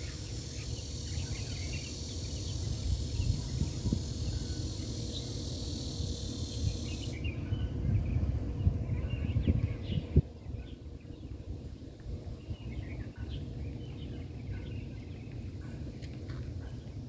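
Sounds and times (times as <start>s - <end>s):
steady high hiss: 0.0s - 14.5s.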